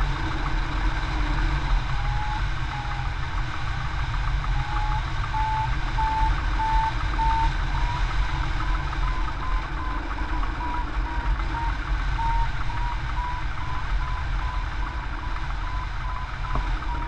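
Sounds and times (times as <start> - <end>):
variometer beeping: 1.4 - 17.0.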